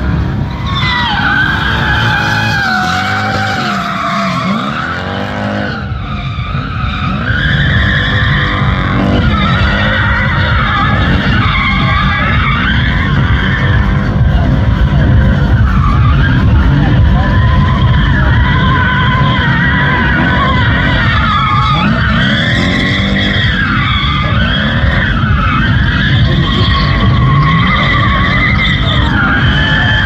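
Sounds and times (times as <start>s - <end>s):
car engine revving: 0.0s - 30.0s
tyres squealing: 0.5s - 30.0s.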